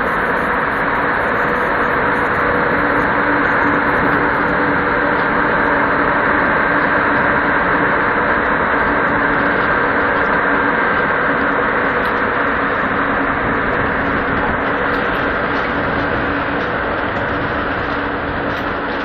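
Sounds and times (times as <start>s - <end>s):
locomotive cooling blowers whirring: 0.0s - 19.0s.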